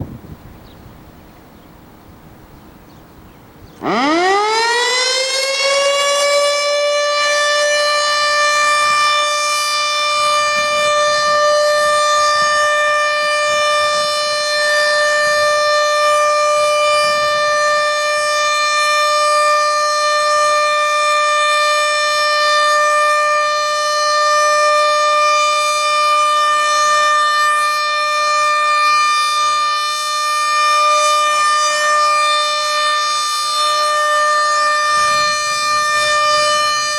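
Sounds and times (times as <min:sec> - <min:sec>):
tornado siren winding up: 0:03.8 - 0:36.9.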